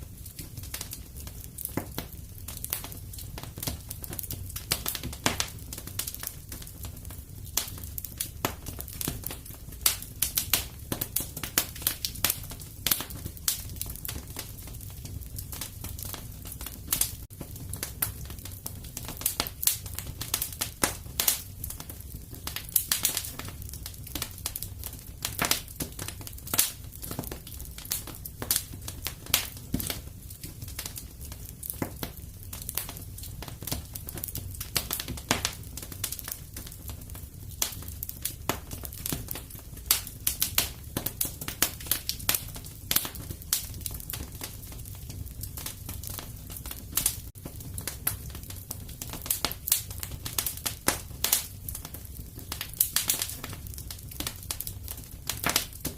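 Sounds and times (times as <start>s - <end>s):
fire crackling in a fireplace: 0.0s - 55.9s.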